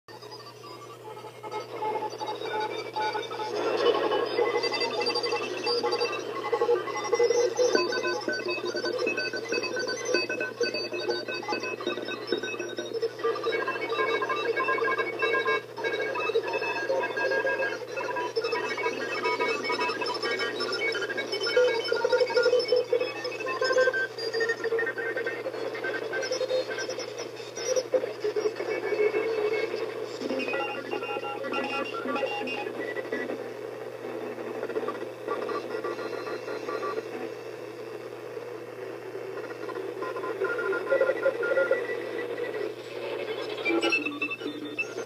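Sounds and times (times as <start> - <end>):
radio static hiss: 0.1 - 45.0.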